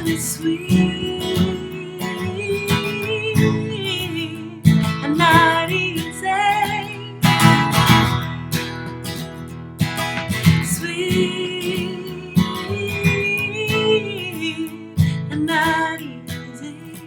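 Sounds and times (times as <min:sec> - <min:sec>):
strummed chords: 0:00.0 - 0:15.3.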